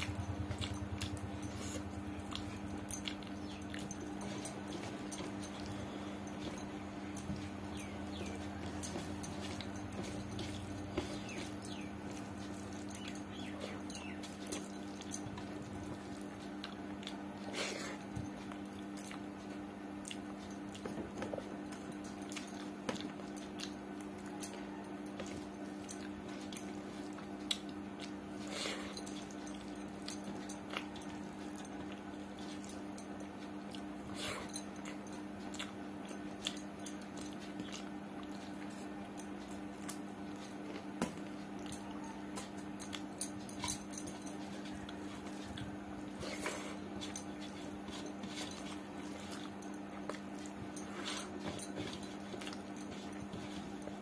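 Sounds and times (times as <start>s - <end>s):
chewing and mouth smacks: 0.0s - 43.8s
steady low hum: 0.0s - 54.0s.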